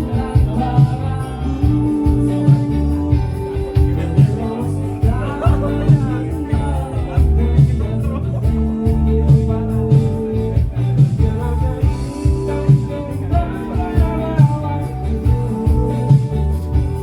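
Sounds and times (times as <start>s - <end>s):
band playing music: 0.0s - 17.0s
guitar: 0.0s - 17.0s.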